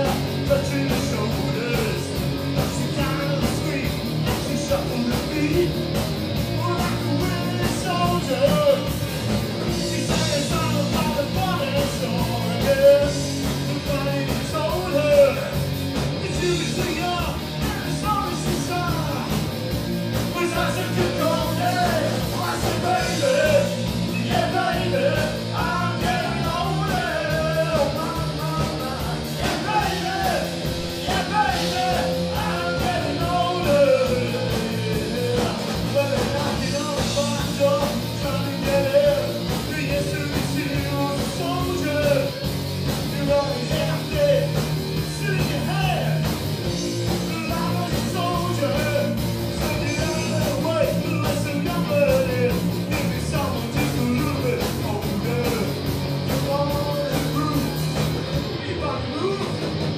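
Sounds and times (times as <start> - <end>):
person singing: 0.0 - 5.8, 6.5 - 9.0, 9.6 - 15.6, 20.3 - 42.4, 43.1 - 55.8
bass guitar: 0.0 - 59.9
drums: 0.0 - 59.9
electric guitar: 0.0 - 59.9.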